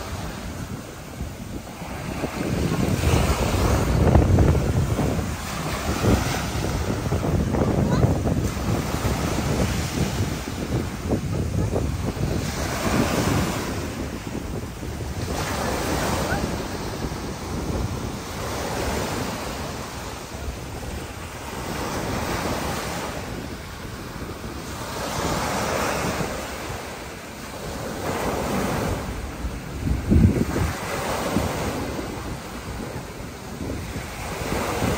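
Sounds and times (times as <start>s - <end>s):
small waves breaking on beach: 0.0s - 34.9s
wind buffeting microphone: 0.0s - 34.9s.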